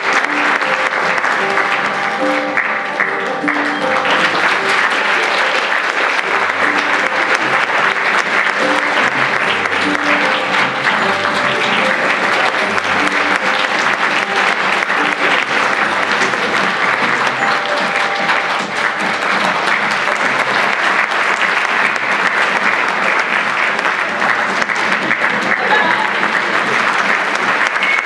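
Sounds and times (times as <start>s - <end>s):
audience applauding: 0.0s - 28.0s
faint music: 0.0s - 28.0s.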